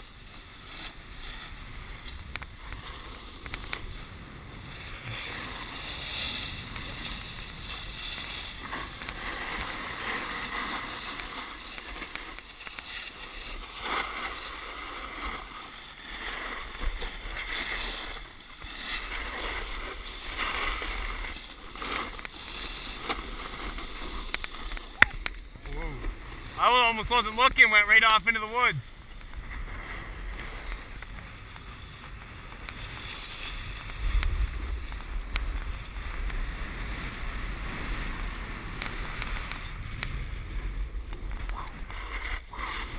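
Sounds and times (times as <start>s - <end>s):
snowboards scraping over snow: 0.0s - 42.9s.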